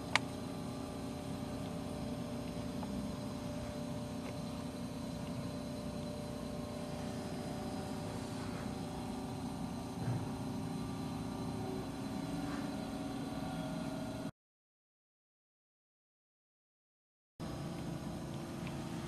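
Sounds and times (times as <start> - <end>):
steady tonal hum: 0.0 - 14.3, 17.4 - 19.0.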